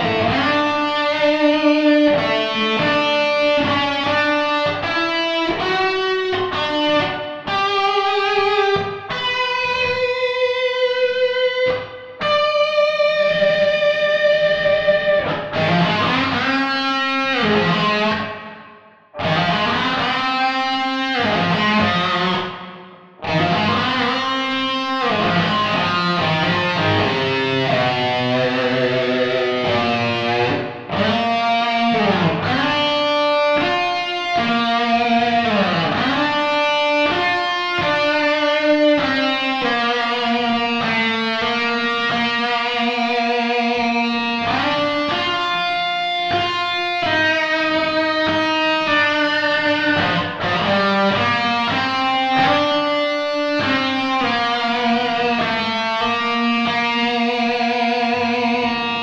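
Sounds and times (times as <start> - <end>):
distorted electric guitar melody: 0.0 - 59.0.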